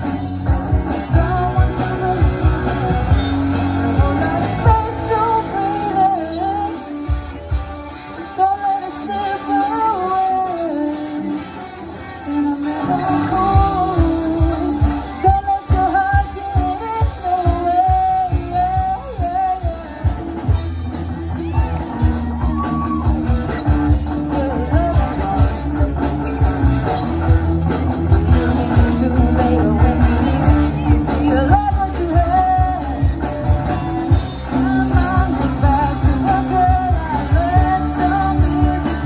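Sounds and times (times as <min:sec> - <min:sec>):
woman singing: 0:00.0 - 0:20.7, 0:23.7 - 0:26.5, 0:28.2 - 0:39.0
live rock band: 0:00.0 - 0:39.0.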